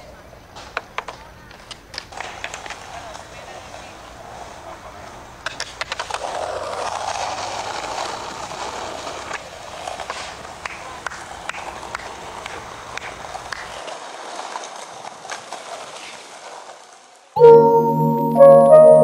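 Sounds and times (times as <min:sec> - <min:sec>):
skateboard clacks: 0:00.0 - 0:17.2
skateboard wheels rolling on pavement: 0:00.0 - 0:17.4.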